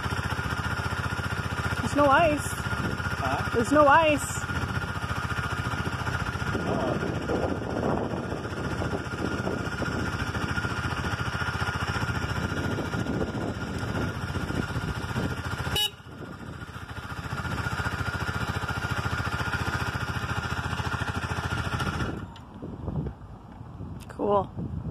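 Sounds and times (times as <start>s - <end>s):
motorcycle engine idling: 0.0s - 23.9s.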